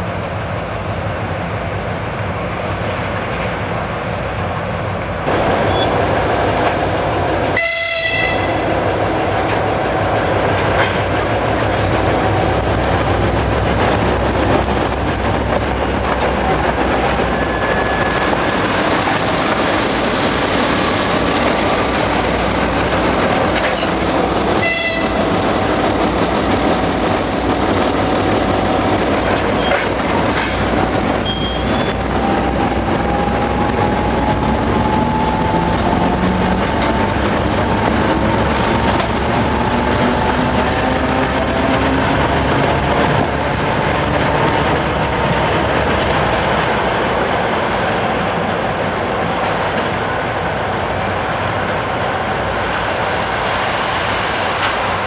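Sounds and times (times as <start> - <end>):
diesel locomotives rumbling: 0.0 - 55.0
wheels clacking over rail joints: 5.3 - 52.2.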